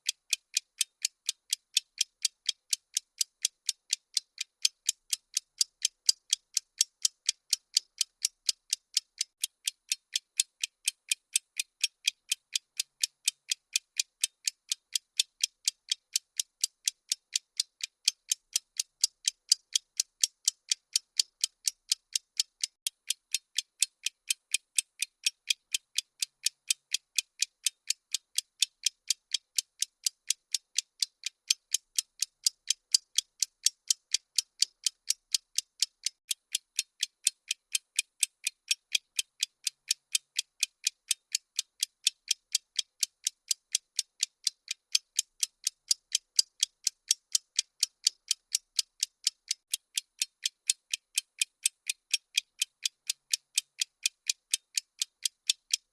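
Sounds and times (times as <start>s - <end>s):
timer ticking: 0.0s - 55.9s.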